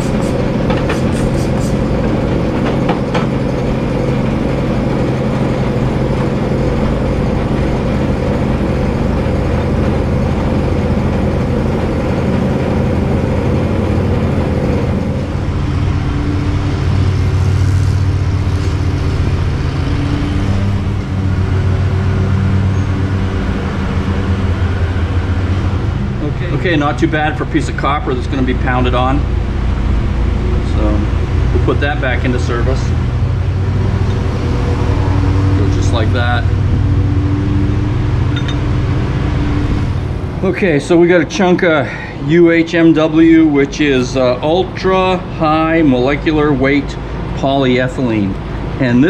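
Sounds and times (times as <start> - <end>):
metal lathe humming: 0.0 - 41.6.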